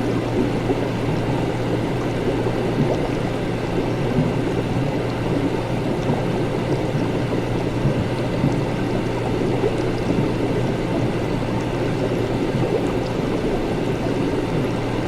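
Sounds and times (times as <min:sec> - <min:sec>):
liquid bubbling and gurgling: 0:00.0 - 0:15.0
low machine hum: 0:00.0 - 0:15.0.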